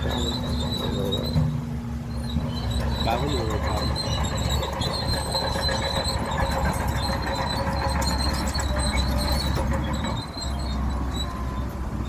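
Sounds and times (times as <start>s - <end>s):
crawler tracks squealing: 0.0s - 12.0s
diesel engine rumble: 0.0s - 12.0s.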